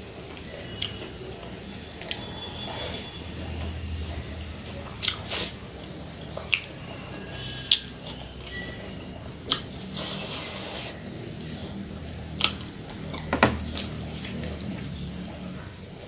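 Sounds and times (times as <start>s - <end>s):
chewing and wet mouth sounds: 0.2s - 16.0s.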